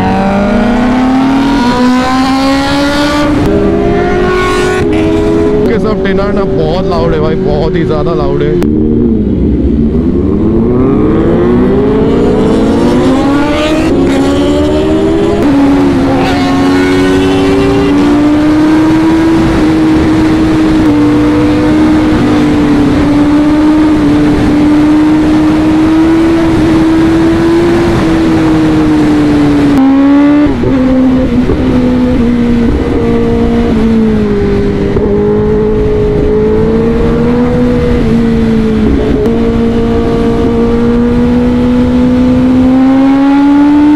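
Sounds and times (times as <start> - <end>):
motorcycle engine accelerating: 0.0 - 43.9
wind noise: 0.0 - 43.9.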